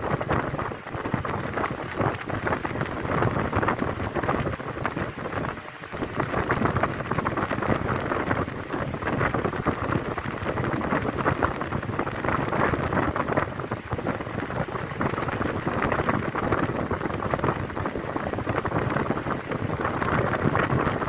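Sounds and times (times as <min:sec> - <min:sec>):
fan airflow rushing on microphone: 0:00.0 - 0:21.0.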